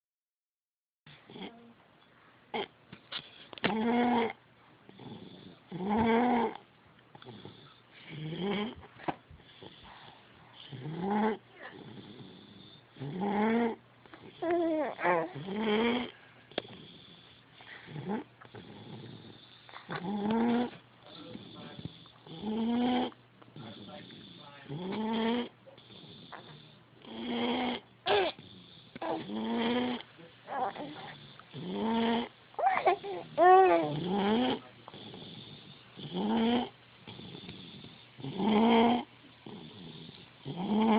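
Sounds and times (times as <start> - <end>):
squeaky snoring: 1.1 - 1.7, 3.7 - 6.6, 7.2 - 8.8, 9.5 - 40.9.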